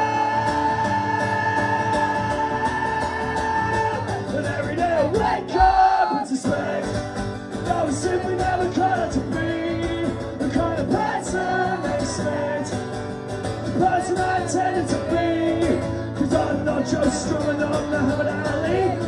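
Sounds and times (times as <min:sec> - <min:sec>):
man singing: 0:00.0 - 0:13.0, 0:13.6 - 0:19.0
acoustic guitar strumming: 0:00.0 - 0:19.0.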